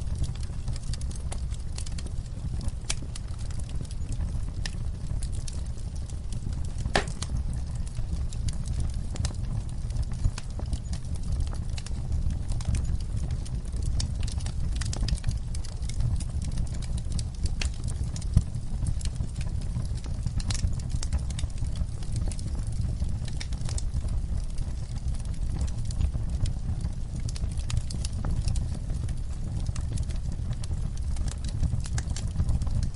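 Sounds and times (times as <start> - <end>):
burning wood crackling and popping: 0.0 - 32.9
low rumble of flames: 0.0 - 32.9.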